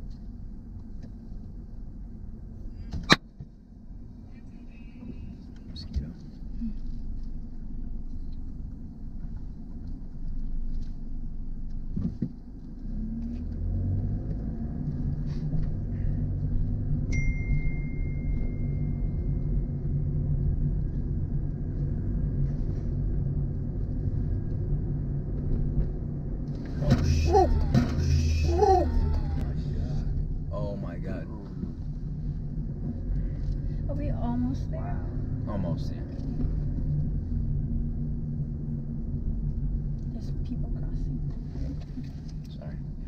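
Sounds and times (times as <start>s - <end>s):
car road and engine rumble: 0.0s - 43.0s
engine hum: 0.0s - 43.0s.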